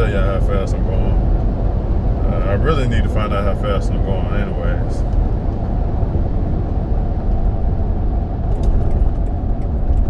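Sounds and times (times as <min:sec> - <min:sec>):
tire and road noise: 0:00.0 - 0:10.0.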